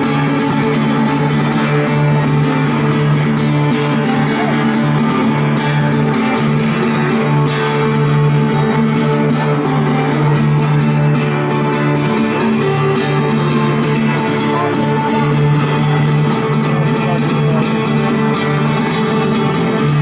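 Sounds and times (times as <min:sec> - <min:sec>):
electric guitar solo: 0:00.0 - 0:20.0.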